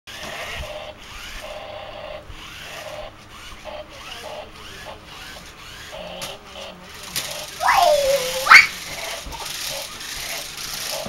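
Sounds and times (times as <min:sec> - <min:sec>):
toy car electric motor whirring: 0:00.1 - 0:11.0.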